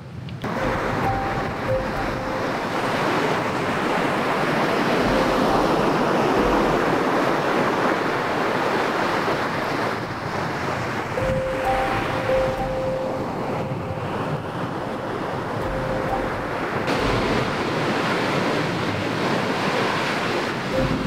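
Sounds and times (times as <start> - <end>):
surf breaking on beach: 0.4 - 21.0.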